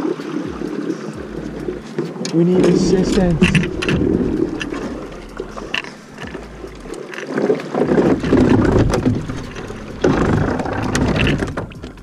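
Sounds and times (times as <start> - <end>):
water sloshing around a boat: 0.0 - 12.0
boat knocks: 0.5 - 12.0.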